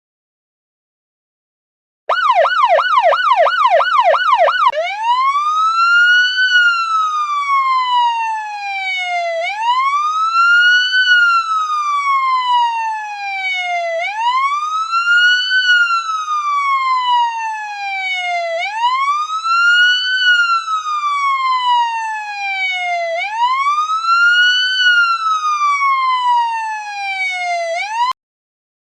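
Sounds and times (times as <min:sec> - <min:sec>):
police car siren: 0:02.1 - 0:28.2.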